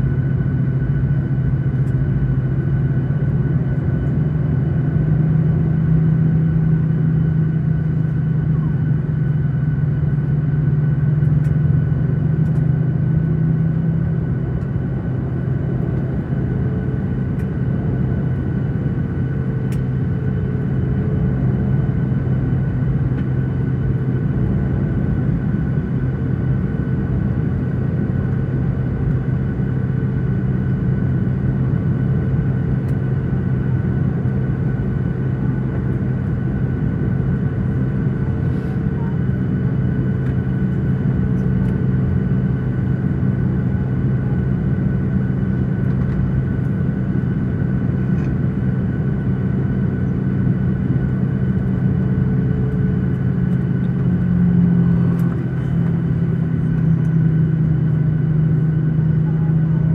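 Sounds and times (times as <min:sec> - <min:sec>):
aircraft cabin engine hum: 0:00.0 - 0:59.9.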